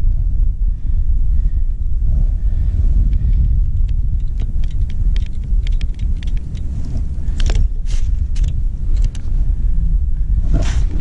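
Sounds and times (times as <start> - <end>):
low microphone rumble: 0.0 - 11.0.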